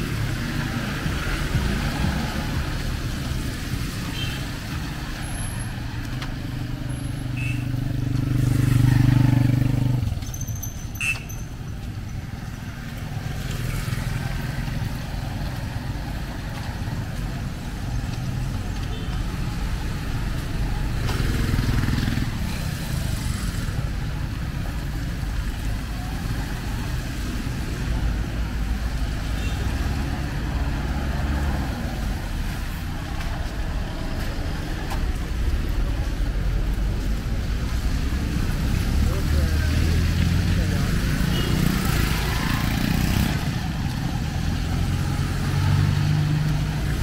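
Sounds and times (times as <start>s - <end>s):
street noise: 0.0s - 47.0s
vehicle engine humming: 0.0s - 47.0s.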